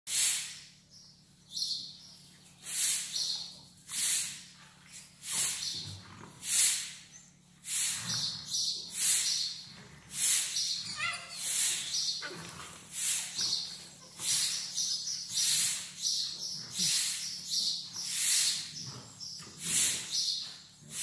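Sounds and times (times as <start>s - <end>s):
dogs snuffling: 2.2s - 21.0s.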